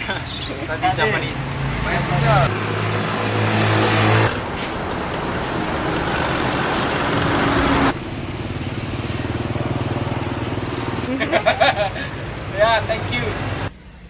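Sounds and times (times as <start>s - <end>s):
road noise: 0.0s - 14.0s
vehicles passing: 0.0s - 14.0s.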